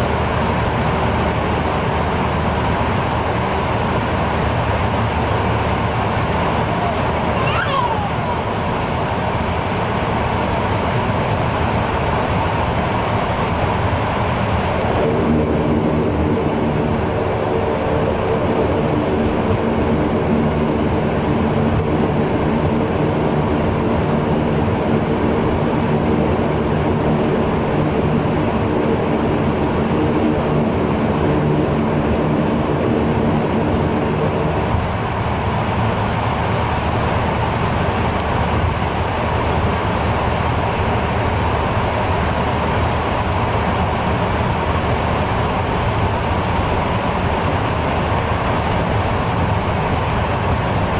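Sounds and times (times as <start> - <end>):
hum of steady tones: 0.0 - 50.9
turboprop engine drone: 0.0 - 50.9.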